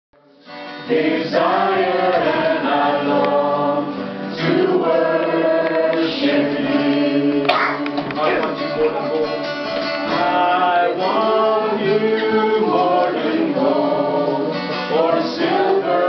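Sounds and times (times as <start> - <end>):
group singing in unison: 0.5 - 16.0.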